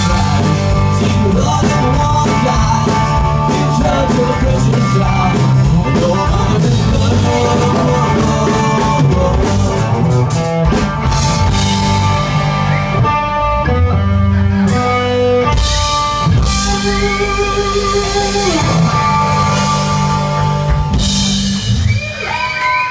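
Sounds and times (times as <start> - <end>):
drums: 0.0 - 22.9
electric guitar lead: 0.0 - 22.9.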